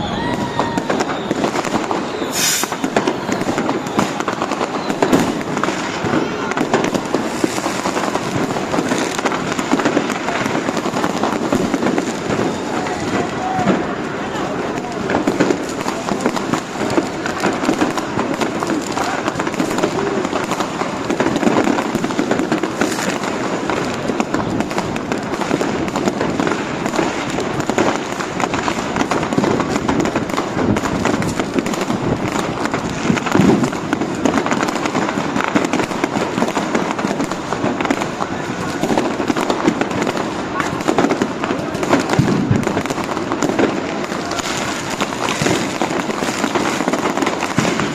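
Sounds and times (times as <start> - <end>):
crowd voices: 0.0 - 47.9
firecrackers crackling and popping: 0.0 - 47.9.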